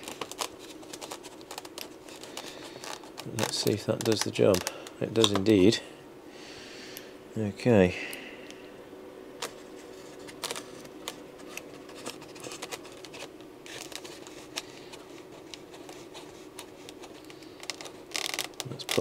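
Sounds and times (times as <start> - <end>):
small clicks and scrapes of handling: 0.0 - 5.7, 9.4 - 19.0
faint steady hum: 0.0 - 19.0.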